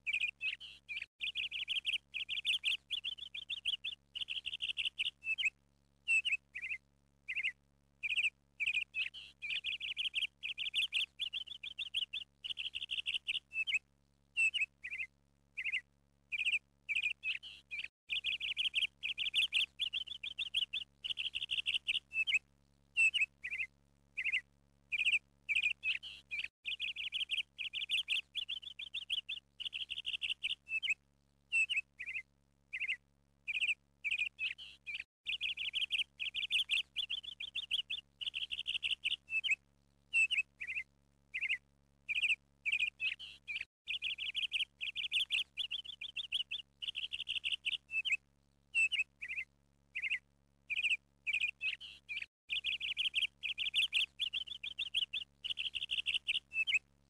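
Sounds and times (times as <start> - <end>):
small songbird chirping and trilling: 0.0 - 56.9.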